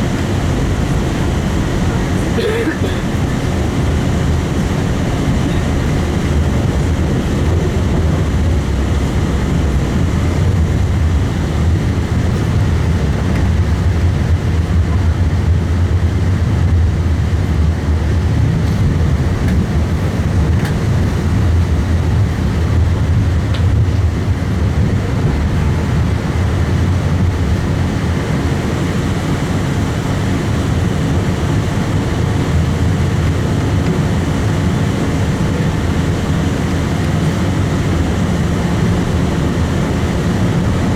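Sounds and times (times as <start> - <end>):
tram wheels and motors rumbling: 0.0 - 40.9.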